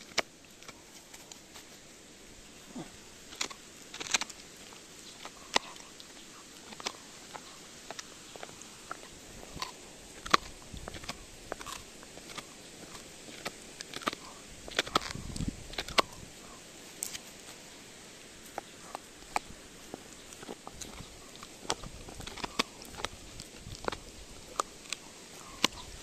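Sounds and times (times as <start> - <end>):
dog gnawing bone: 0.0 - 1.5, 2.8 - 17.4, 18.4 - 26.0.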